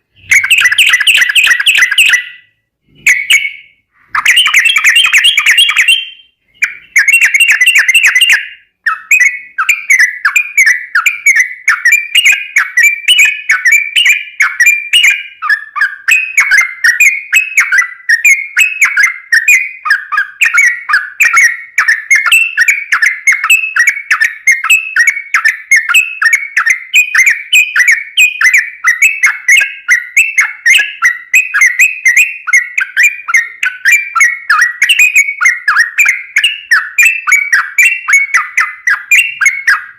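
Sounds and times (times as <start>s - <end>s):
bird singing chirping whistled notes: 0.0s - 39.9s.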